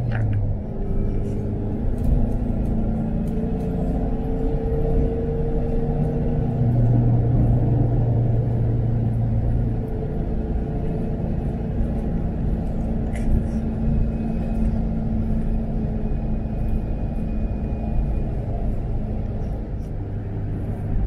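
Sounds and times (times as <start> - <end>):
car engine running: 0.0 - 21.0
road rumble: 0.0 - 21.0.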